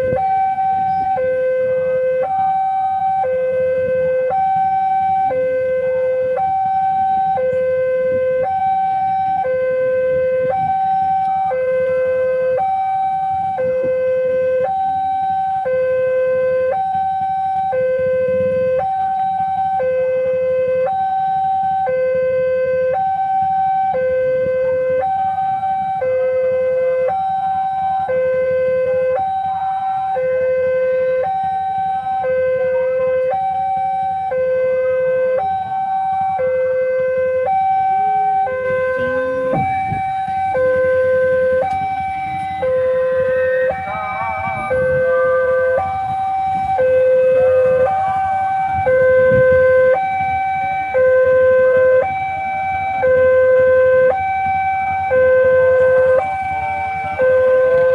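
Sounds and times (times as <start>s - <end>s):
level-crossing two-tone alarm: 0.0s - 57.9s.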